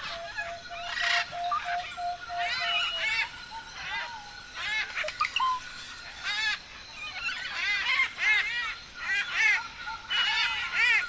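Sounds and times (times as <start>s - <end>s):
forest birds calling: 0.0s - 11.0s.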